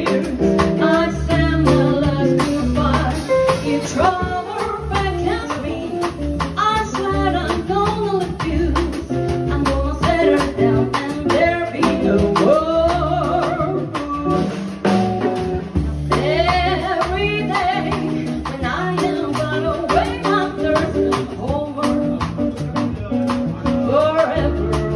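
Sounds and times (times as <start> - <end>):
person singing: 0.0 - 6.2, 6.8 - 14.8, 16.1 - 24.9
acoustic band playing: 0.0 - 24.9.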